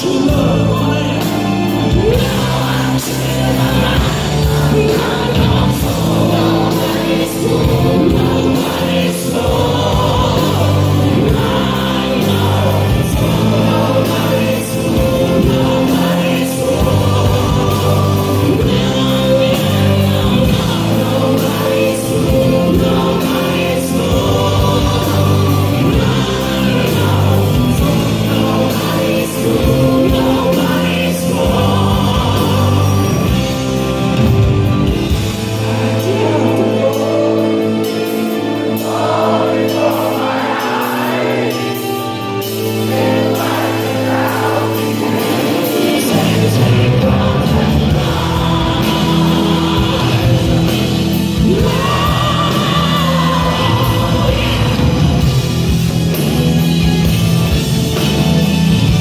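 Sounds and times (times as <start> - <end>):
voices singing together: 0.0 - 57.7
live rock band playing a ballad: 0.0 - 59.0.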